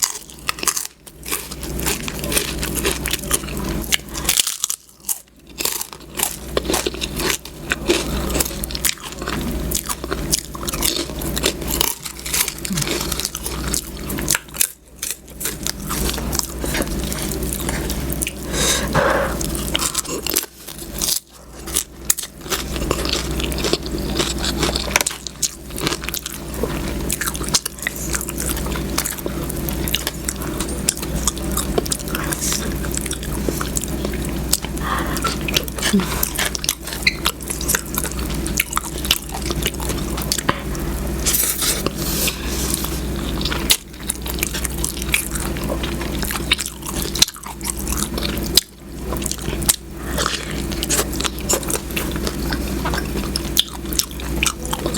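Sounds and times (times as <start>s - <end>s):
person chewing food: 0.0s - 54.9s
steady low hum: 0.0s - 54.9s.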